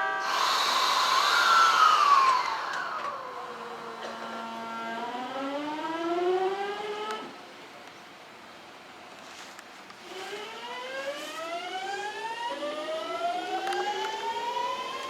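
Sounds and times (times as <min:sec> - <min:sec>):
train motor inverter whine: 0:00.0 - 0:07.6, 0:10.0 - 0:15.0.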